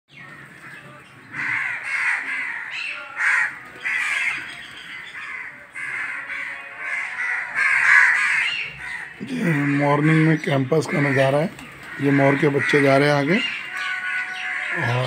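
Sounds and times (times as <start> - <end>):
crows cawing: 0.1 - 15.0.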